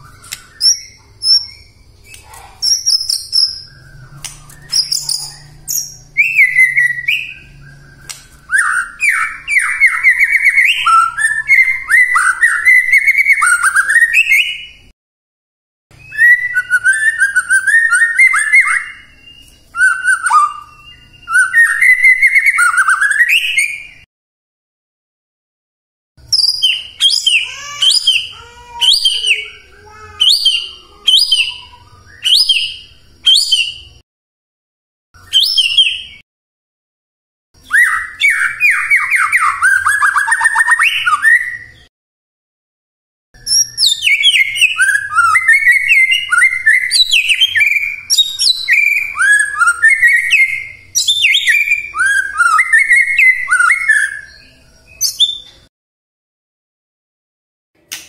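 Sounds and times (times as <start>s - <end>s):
songbird whistling: 0.0s - 14.9s, 15.9s - 24.1s, 26.2s - 34.0s, 35.2s - 36.2s, 37.6s - 41.9s, 43.4s - 55.7s.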